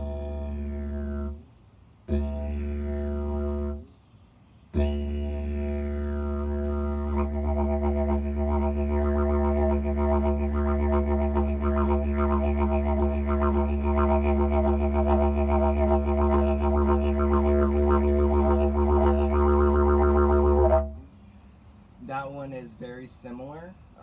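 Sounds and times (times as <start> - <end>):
didgeridoo drone: 0.0 - 1.5, 2.1 - 3.9, 4.8 - 21.0.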